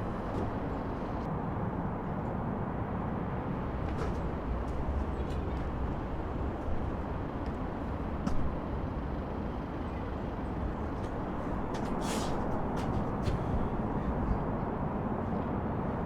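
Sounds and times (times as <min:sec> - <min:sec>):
heavy traffic rumble: 0:00.0 - 0:16.0.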